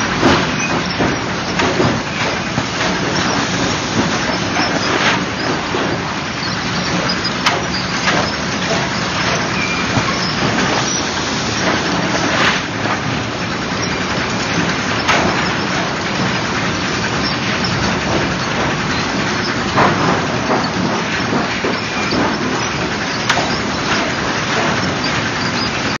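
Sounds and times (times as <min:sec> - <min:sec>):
machinery running: 0:00.0 - 0:26.0.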